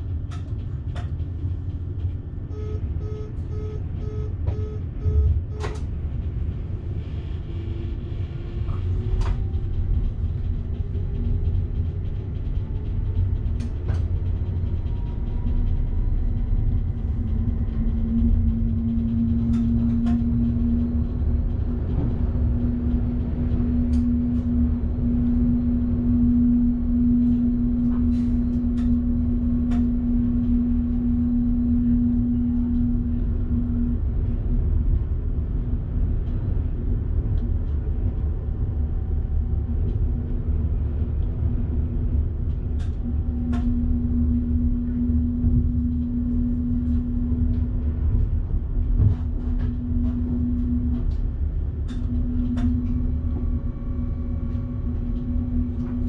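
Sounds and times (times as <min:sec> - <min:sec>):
electric train rumble: 0:00.0 - 0:56.0
steady hum: 0:00.0 - 0:56.0.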